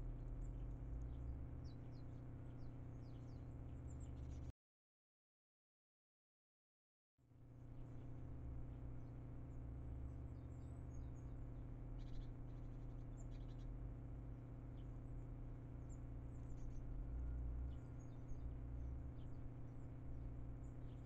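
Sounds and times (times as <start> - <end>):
small birds chirping: 0.0 - 4.5, 7.6 - 21.0
steady low hum: 0.0 - 4.5, 7.4 - 21.0.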